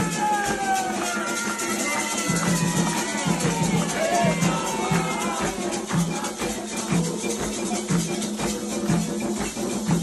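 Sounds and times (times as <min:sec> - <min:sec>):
shaker rattling: 0:00.0 - 0:10.0.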